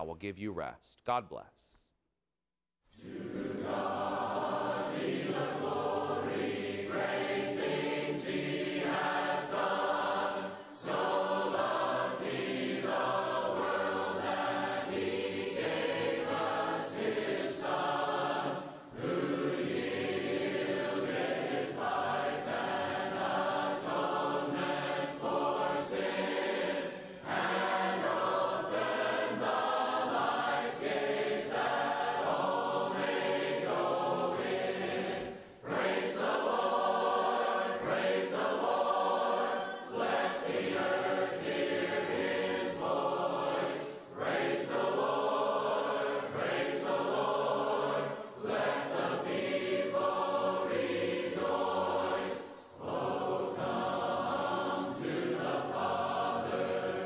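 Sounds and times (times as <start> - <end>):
choir singing a hymn: 3.0 - 57.0.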